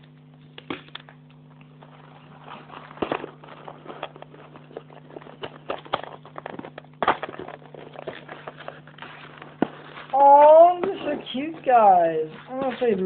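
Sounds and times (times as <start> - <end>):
steady low hum: 0.0 - 13.0
plastic packaging crinkling: 0.2 - 13.0.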